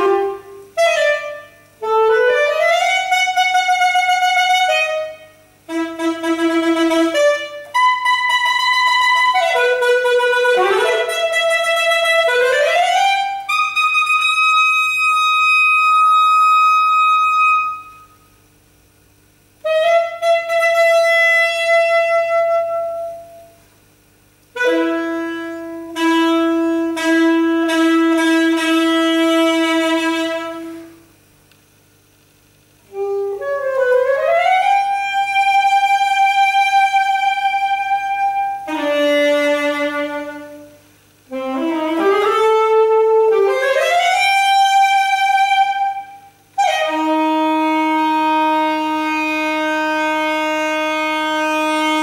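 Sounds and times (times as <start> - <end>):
solo saxophone: 0.0 - 31.3, 32.7 - 52.0.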